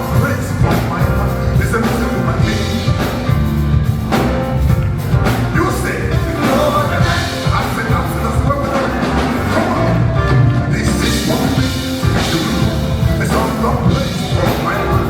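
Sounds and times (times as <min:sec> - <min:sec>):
people singing: 0:00.0 - 0:04.3, 0:05.3 - 0:15.0
bass guitar: 0:00.0 - 0:15.0
drums: 0:00.0 - 0:15.0
gospel band playing: 0:00.0 - 0:15.0.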